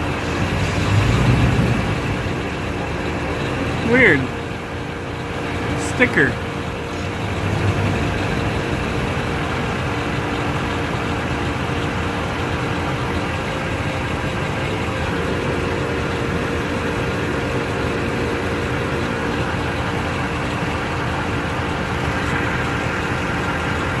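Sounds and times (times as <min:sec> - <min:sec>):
pickup engine running: 0:00.0 - 0:24.0.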